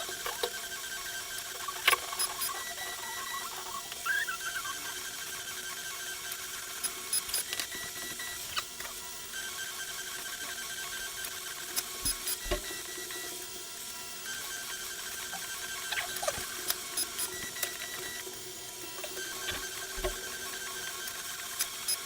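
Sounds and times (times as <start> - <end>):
stepper motors whirring: 0.0 - 13.3, 13.9 - 22.0.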